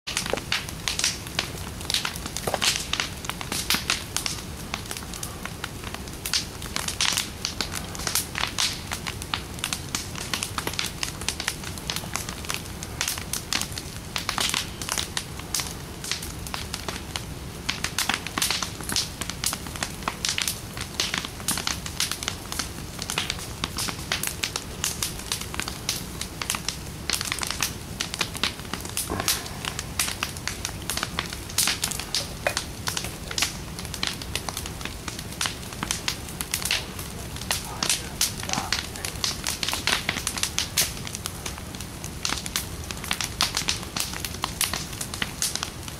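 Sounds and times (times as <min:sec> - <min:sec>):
bonfire crackling and popping: 0:00.1 - 0:45.9
low fire rumble: 0:00.1 - 0:45.9.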